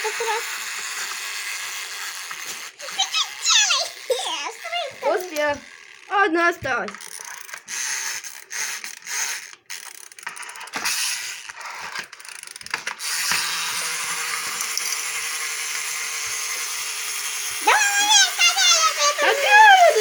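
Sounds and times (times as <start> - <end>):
toy plastic gears clicking and whirring: 0.0 - 20.0.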